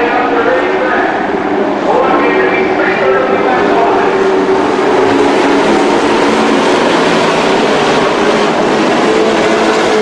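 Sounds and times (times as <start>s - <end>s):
race truck engines droning: 0.0s - 10.0s.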